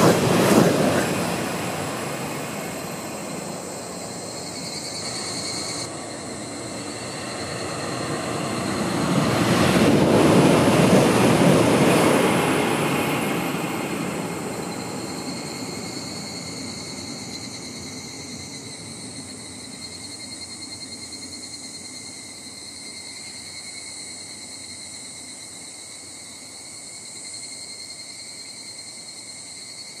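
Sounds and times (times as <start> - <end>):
high-speed train passing: 0.0 - 25.6.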